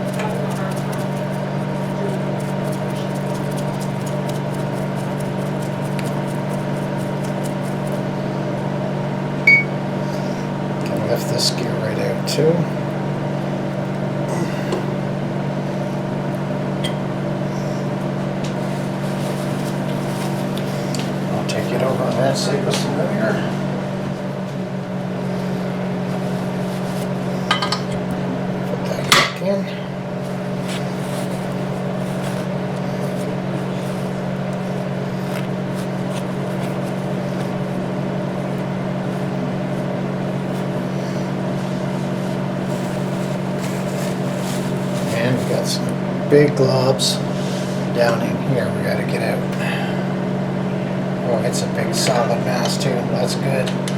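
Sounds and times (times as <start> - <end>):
machine hum: 0.0 - 53.9.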